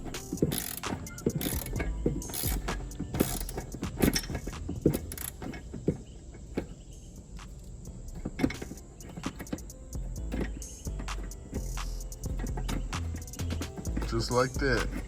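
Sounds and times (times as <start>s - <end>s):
hand tools clinking on metal: 0.0s - 15.0s.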